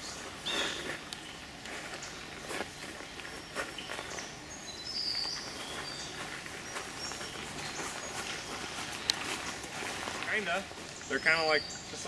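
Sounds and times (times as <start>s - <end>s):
birds chirping: 0.0s - 12.0s
footsteps on forest trail: 0.0s - 12.0s.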